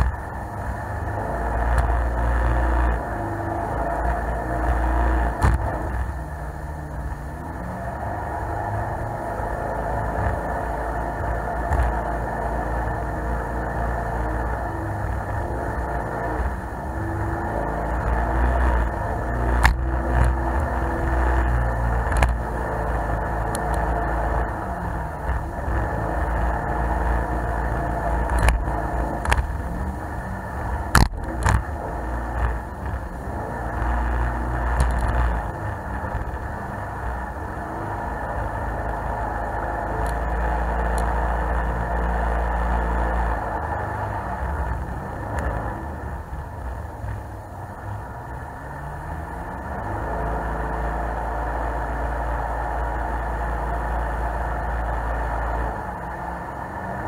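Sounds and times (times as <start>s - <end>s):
jet boat engine running: 0.0s - 57.0s.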